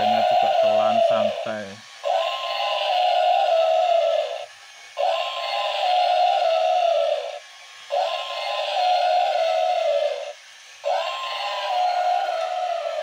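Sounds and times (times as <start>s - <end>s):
tinny electronic toy sound: 0.0s - 13.0s.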